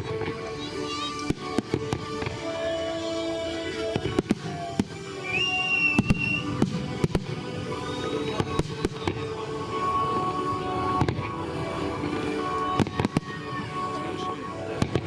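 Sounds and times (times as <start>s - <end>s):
fireworks bursting with sharp bangs: 0.0s - 15.0s
music: 0.0s - 15.0s.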